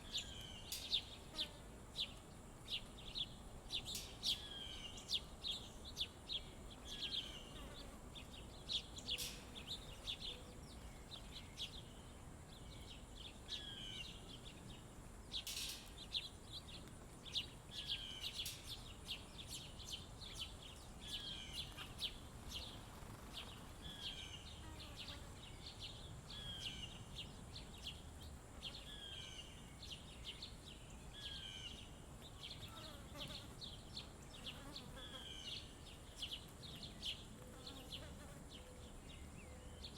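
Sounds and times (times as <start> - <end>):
faint steady high buzz: 0.0 - 39.9
small birds chirping: 0.0 - 39.9.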